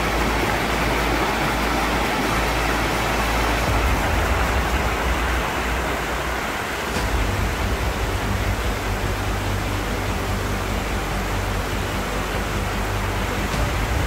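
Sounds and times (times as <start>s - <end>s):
low hum: 0.0s - 14.0s
running water rushing: 0.0s - 14.0s.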